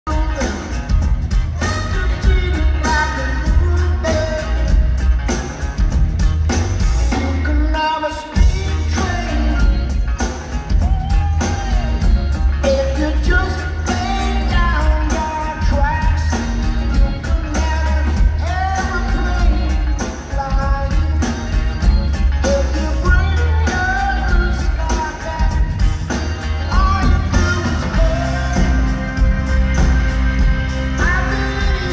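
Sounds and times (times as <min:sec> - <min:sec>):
man singing: 0:00.0 - 0:05.1, 0:07.1 - 0:10.1, 0:10.9 - 0:21.6, 0:22.3 - 0:29.9, 0:30.7 - 0:31.9
live rock band: 0:00.0 - 0:31.9.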